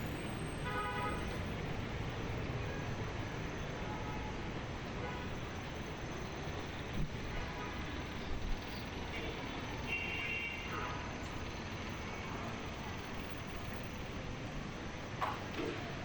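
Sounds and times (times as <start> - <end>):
traffic hum: 0.0 - 16.0.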